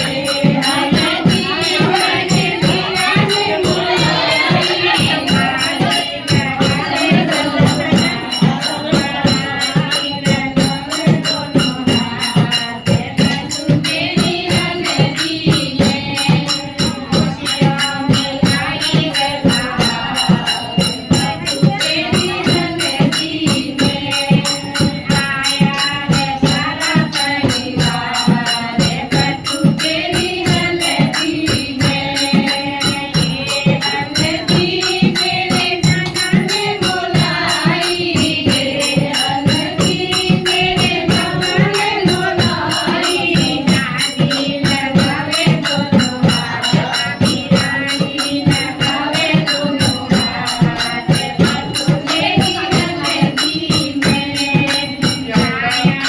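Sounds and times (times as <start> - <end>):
group singing in chorus: 0.0 - 56.0
tambourine-like percussion: 0.0 - 56.0.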